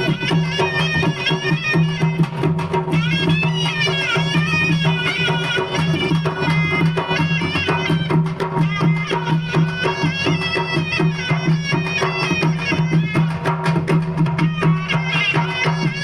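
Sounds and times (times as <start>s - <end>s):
drums: 0.0s - 16.0s
reedy wind instrument melody: 0.0s - 16.0s.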